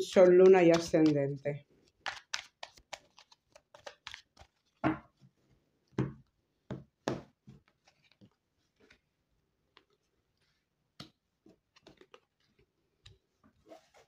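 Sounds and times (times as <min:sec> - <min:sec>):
cards shuffled and dealt: 0:00.0 - 0:05.2, 0:06.7 - 0:09.1, 0:09.7 - 0:14.0.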